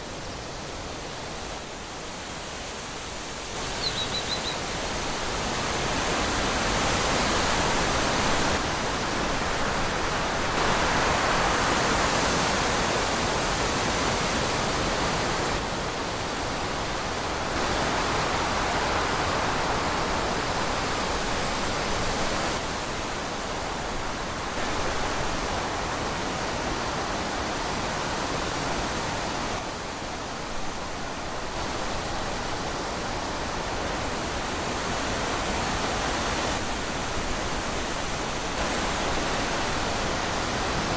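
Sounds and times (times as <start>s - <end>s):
wind blowing in gusts: 0.0s - 40.9s.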